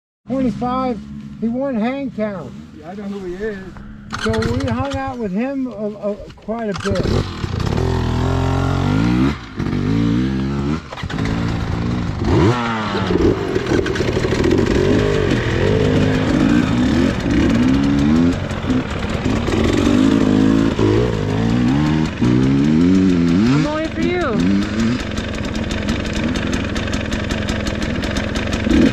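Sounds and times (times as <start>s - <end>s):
motorcycle engines accelerating: 0.3s - 28.9s.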